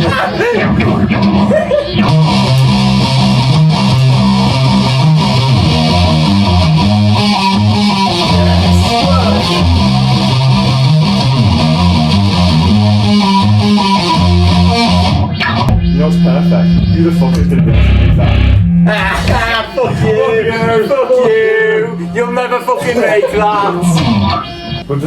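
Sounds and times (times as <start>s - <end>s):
electric guitar: 0.0s - 20.7s, 23.2s - 24.9s
bass line: 0.0s - 22.4s, 23.3s - 24.9s.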